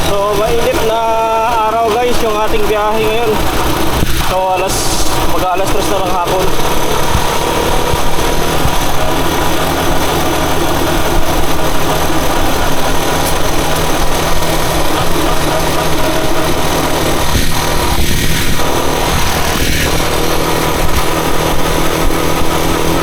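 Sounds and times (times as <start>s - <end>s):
motorcycle engine running: 0.0s - 23.0s
loud even rushing noise: 3.3s - 23.0s.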